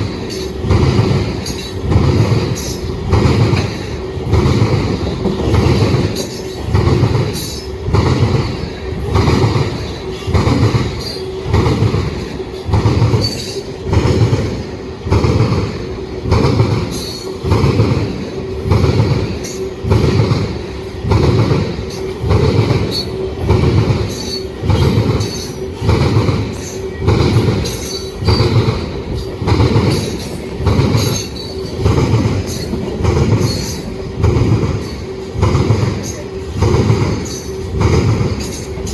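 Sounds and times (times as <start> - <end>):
freight train rolling past: 0.0 - 38.9.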